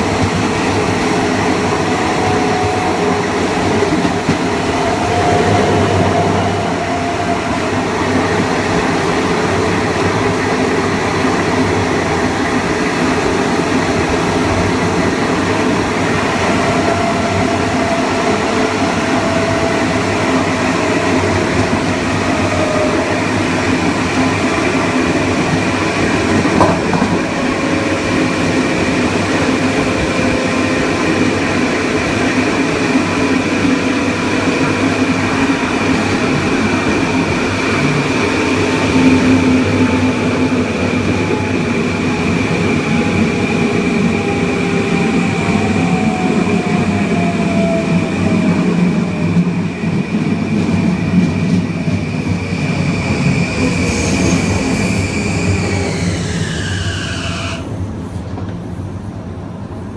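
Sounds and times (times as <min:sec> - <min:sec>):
train wheel and track noise: 0:00.0 - 0:59.9.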